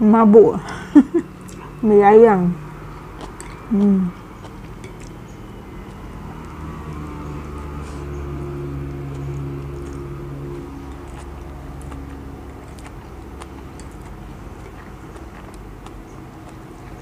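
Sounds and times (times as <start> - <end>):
low mechanical hum: 0.0 - 17.0
chewing noodles: 2.6 - 17.0.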